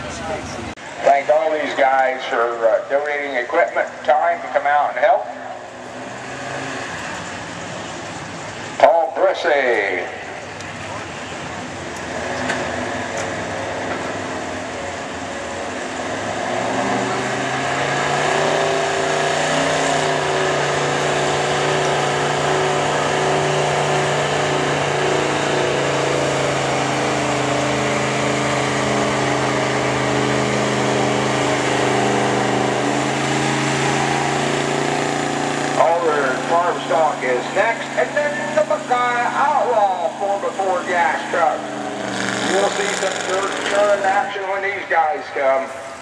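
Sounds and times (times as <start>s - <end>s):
pickup truck engine at full throttle: 0.0s - 46.0s.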